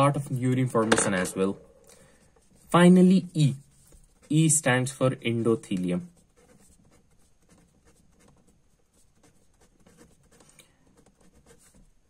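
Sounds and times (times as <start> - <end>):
marker pen scratching on paper: 0.0 - 4.8, 5.7 - 12.0.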